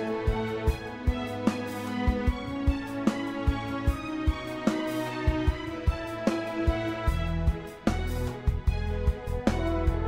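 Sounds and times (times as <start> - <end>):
instrumental music with low beat: 0.0 - 10.0.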